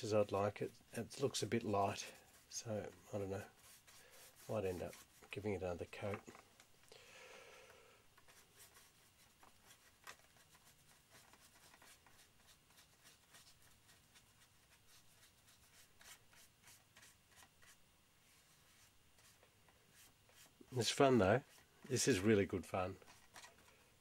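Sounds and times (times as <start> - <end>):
paintbrush scratchy strokes: 0.0 - 6.2, 8.2 - 23.5.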